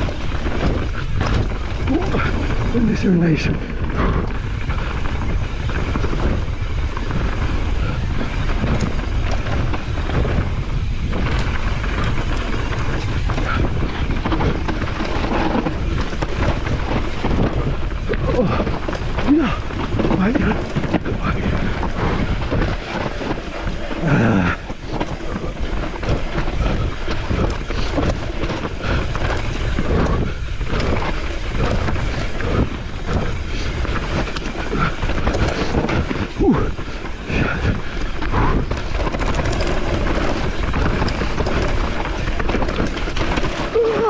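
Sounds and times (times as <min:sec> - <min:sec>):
bike chain and frame rattling: 0:00.0 - 0:44.0
tyres rumbling on dirt and stones: 0:00.0 - 0:44.0
wind buffeting microphone: 0:00.0 - 0:44.0.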